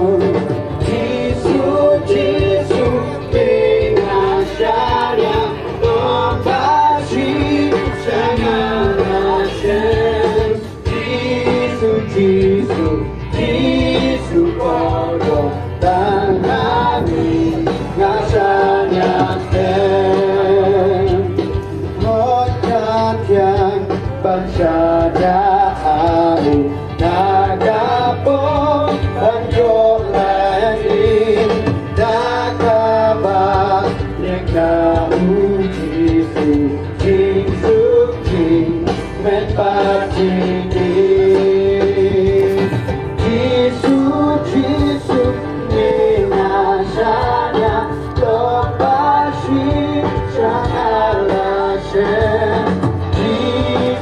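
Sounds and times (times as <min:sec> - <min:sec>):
song with singing voices: 0:00.0 - 0:54.0.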